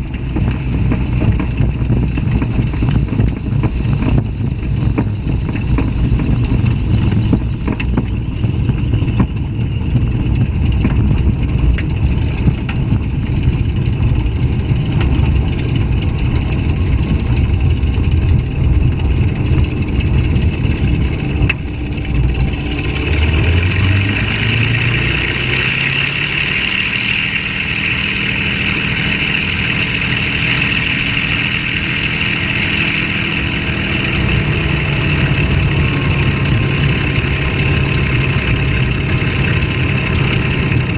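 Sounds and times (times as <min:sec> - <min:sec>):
aircraft engine running: 0:00.0 - 0:40.9
high engine whine: 0:00.0 - 0:40.9.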